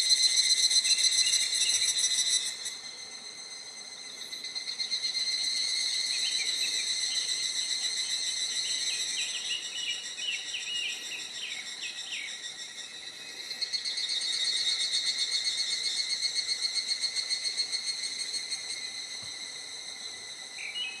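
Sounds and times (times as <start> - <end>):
insects buzzing high: 0.0 - 21.0
pulsing insect song: 0.0 - 21.0.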